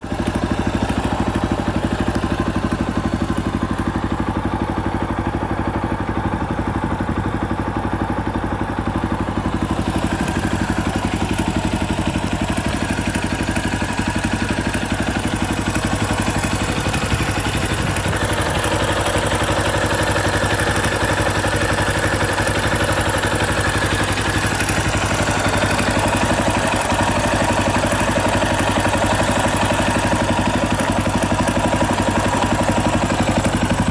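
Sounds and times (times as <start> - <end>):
mechanical engine noise: 0.0 - 33.9
motorcycle engine idling: 0.0 - 33.9.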